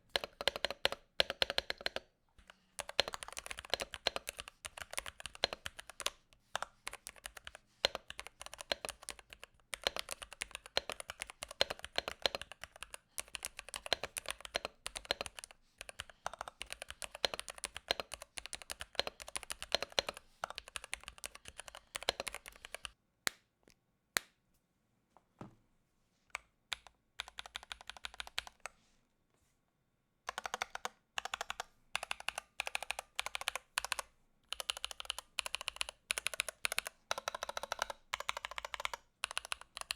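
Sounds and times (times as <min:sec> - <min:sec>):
typing on mechanical keyboard: 0:00.1 - 0:23.0, 0:26.7 - 0:28.7, 0:30.3 - 0:39.9.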